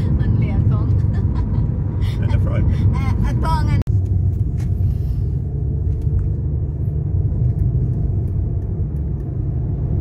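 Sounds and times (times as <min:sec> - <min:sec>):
car driving rumble inside cabin: 0:00.0 - 0:10.0.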